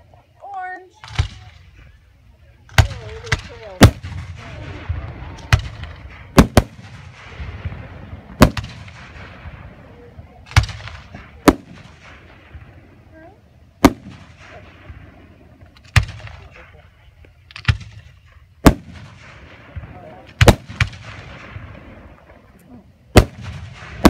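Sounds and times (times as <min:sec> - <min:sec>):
firework shells bursting with echo: 0:02.7 - 0:24.0.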